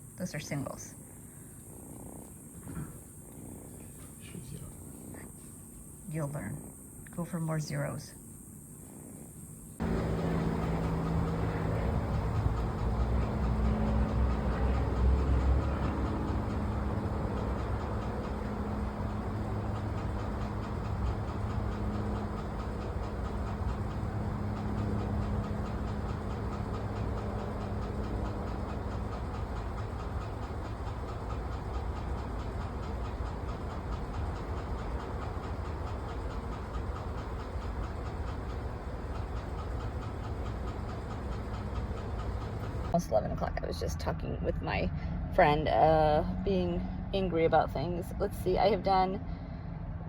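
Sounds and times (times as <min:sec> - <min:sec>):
car road and engine rumble: 0:00.0 - 0:50.0
faint constant hum: 0:00.0 - 0:50.0.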